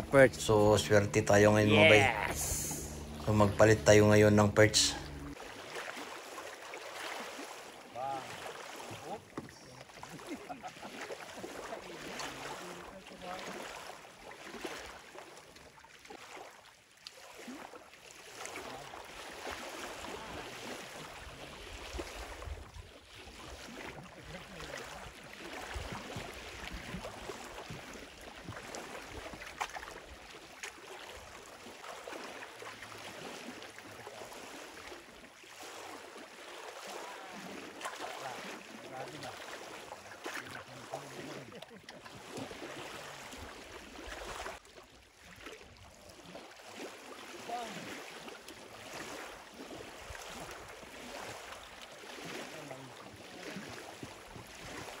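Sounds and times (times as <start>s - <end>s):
waves lapping against wooden dock: 0.0s - 55.0s.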